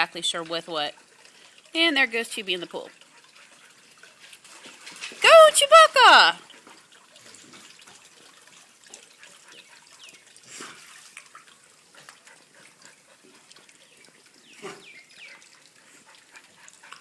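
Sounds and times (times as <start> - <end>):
dog paddling water splashing: 0.1 - 17.0.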